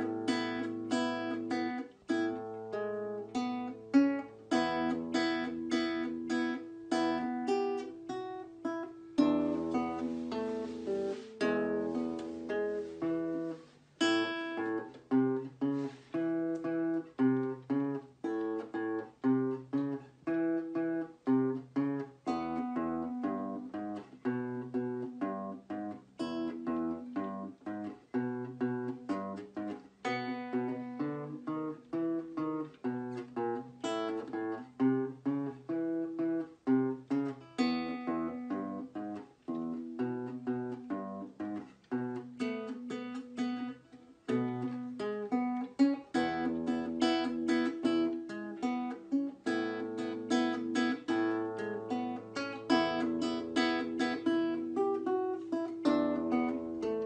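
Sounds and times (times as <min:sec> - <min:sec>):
classical nylon-string guitar: 0:00.0 - 0:57.0.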